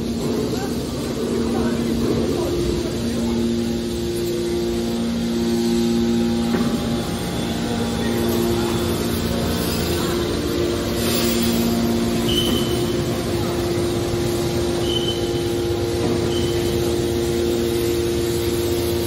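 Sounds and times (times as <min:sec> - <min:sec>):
hydraulic machine drone: 0:00.0 - 0:19.0
pitched hum tones: 0:00.0 - 0:19.0.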